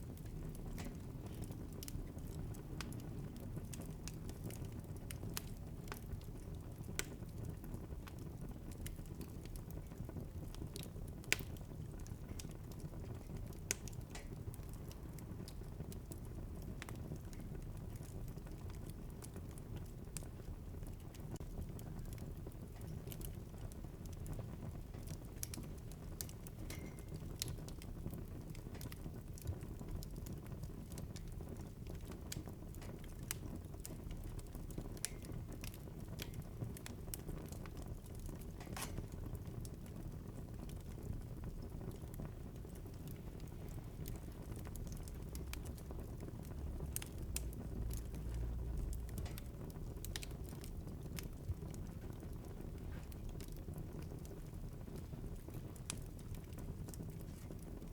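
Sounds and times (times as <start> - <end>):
flames rushing: 0.0 - 57.9
wood fire pops and snaps: 0.0 - 57.9.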